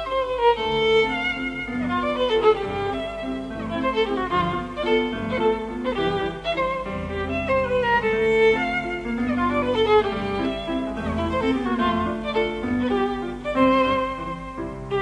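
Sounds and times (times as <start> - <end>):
instrumental music with held notes: 0.0 - 15.0.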